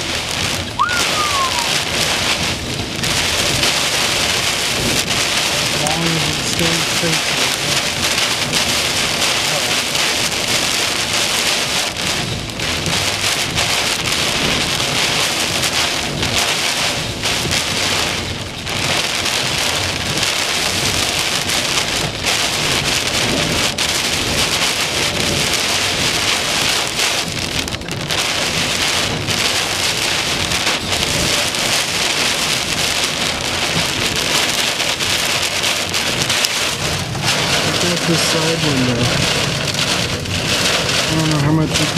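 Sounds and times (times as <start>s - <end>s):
heavy rain beating on truck: 0.0s - 41.9s.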